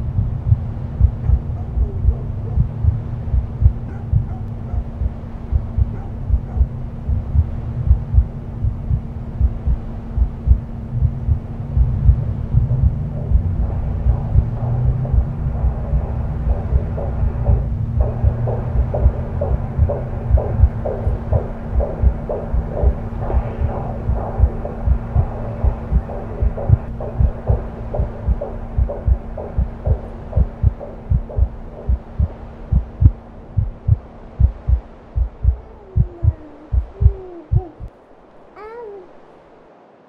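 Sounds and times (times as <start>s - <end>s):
heartbeat thuds: 0.0s - 38.0s
low hum: 0.0s - 40.0s.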